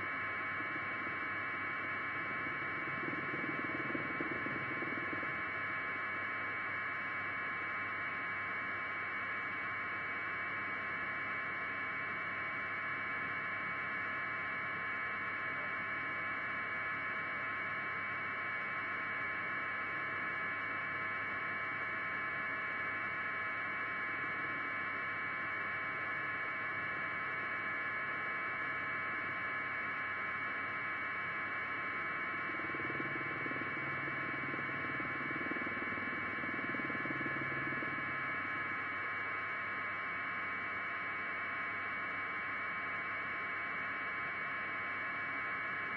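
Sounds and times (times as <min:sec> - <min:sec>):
thin electrical whine: 0:00.0 - 0:45.9.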